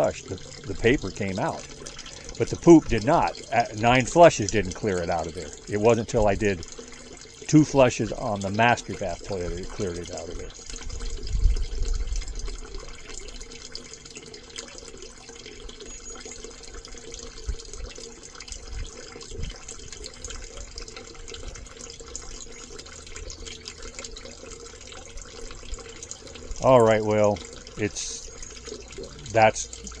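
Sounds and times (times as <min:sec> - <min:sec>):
water splashing into bucket: 0:00.0 - 0:30.0.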